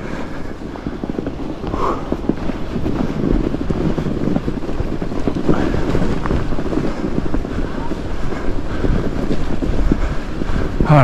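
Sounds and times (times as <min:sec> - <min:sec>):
bike tires rolling through snow: 0:00.0 - 0:11.0
wind buffeting microphone: 0:00.0 - 0:11.0.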